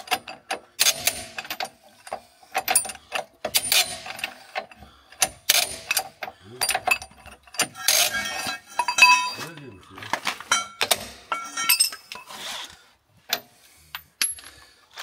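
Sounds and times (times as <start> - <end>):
metal clanks: 0.0 - 12.4.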